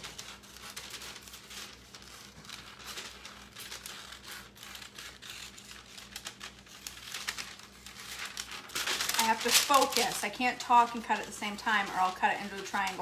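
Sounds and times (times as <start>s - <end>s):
parchment paper crinkling: 0.0s - 13.0s
scissors snipping paper: 0.0s - 13.0s.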